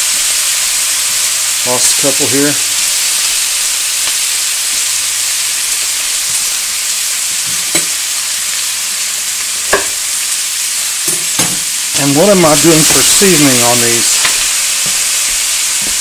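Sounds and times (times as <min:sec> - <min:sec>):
food sizzling in grease: 0:00.0 - 0:16.0.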